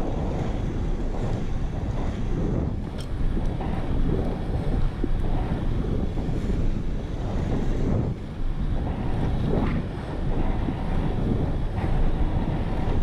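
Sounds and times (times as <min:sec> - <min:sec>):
heavy wind buffeting microphone: 0:00.0 - 0:13.0.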